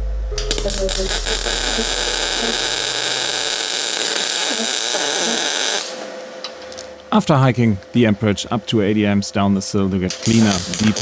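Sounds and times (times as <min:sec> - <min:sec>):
welder arc crackling and hissing: 0:00.3 - 0:11.0.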